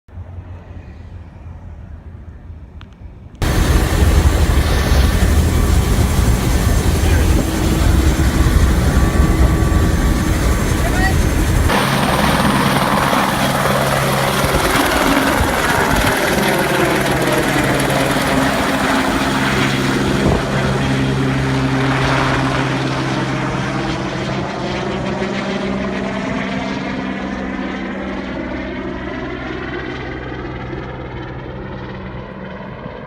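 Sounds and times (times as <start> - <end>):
helicopter running: 0.1 - 33.0.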